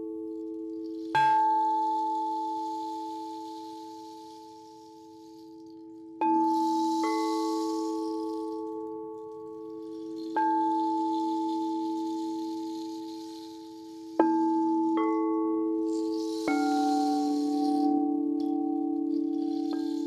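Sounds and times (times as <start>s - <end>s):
singing bowls ringing: 0.0s - 20.0s.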